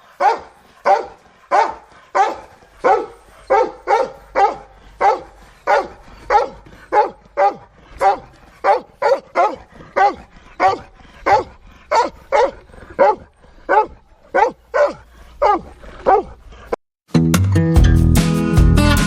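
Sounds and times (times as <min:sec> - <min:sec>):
dog barking: 0:00.0 - 0:16.4.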